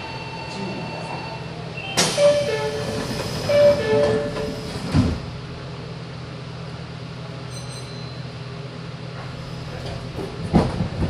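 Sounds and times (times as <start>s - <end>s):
electric train interior hum: 0.0s - 11.0s.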